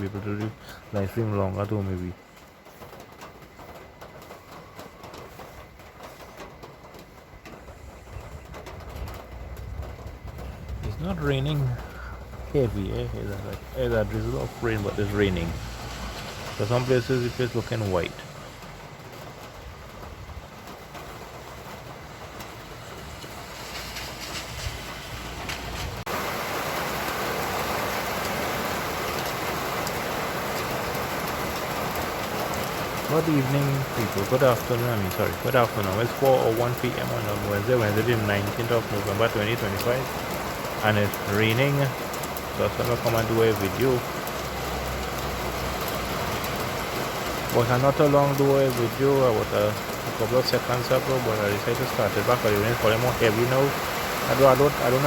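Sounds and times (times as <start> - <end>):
drips ticking: 0.0 - 23.8, 26.1 - 55.0
light drizzle of rain: 0.0 - 55.0
low vehicle rumble: 0.0 - 55.0.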